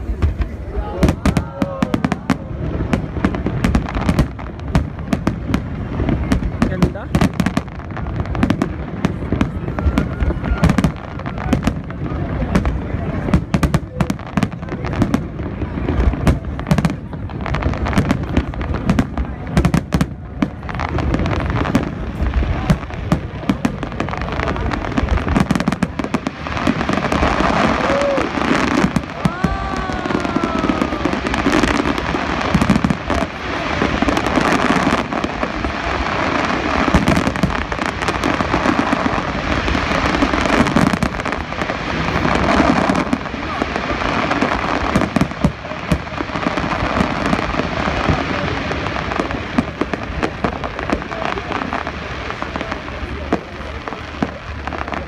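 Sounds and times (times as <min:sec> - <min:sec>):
crowd chatter: 0:00.0 - 0:55.0
fireworks bangs and pops: 0:00.0 - 0:55.0.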